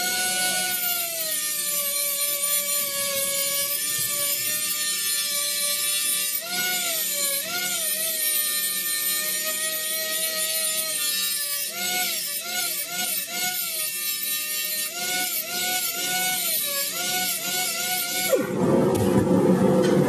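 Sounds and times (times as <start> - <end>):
pneumatic grinder whining: 0.0 - 20.0.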